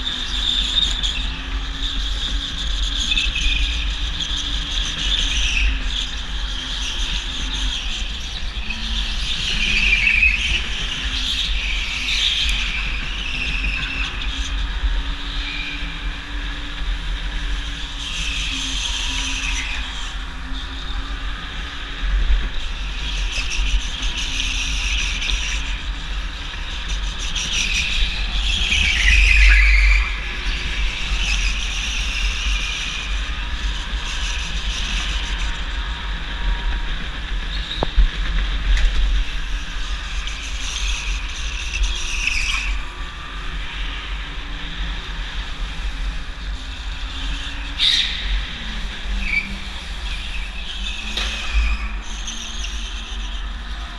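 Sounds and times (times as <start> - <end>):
wind and vibration rumble: 0.0 - 53.9.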